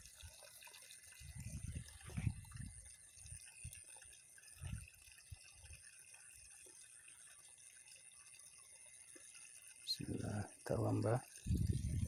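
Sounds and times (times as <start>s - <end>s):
faint water sounds: 0.0s - 12.0s.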